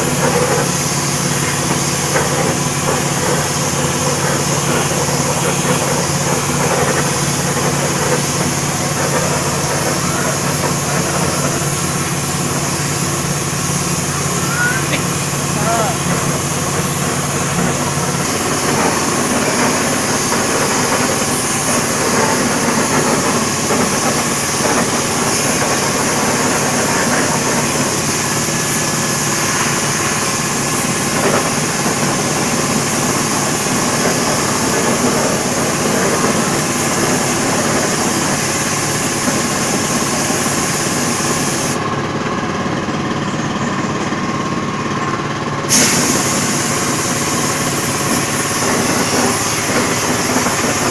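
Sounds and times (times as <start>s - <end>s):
spray gun air hiss: 0.0s - 41.9s, 45.7s - 50.9s
motor running: 0.0s - 50.9s.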